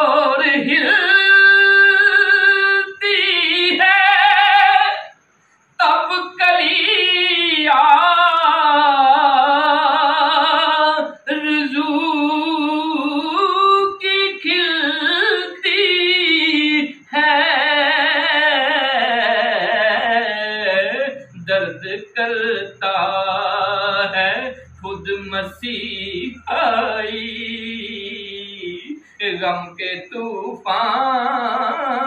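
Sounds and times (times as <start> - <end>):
man singing unaccompanied: 0.0 - 32.0.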